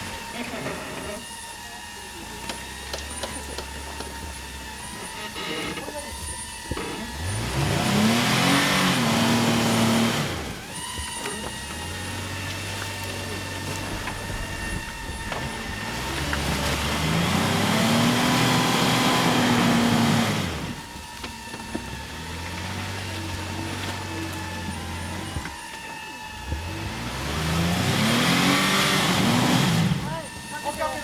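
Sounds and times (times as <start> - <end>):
engine running under load: 0.0 - 31.0.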